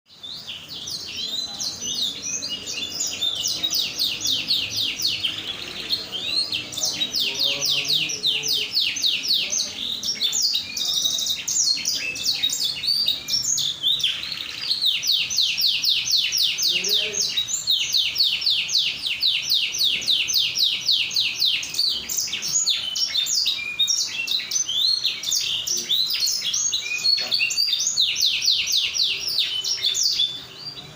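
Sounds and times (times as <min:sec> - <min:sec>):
canary singing trills: 0:00.1 - 0:30.9.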